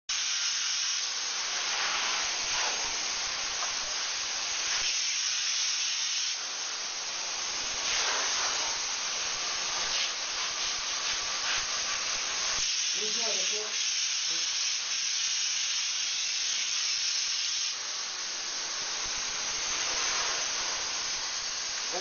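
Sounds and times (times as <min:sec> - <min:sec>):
spray foam gun hissing: 0:00.1 - 0:22.0.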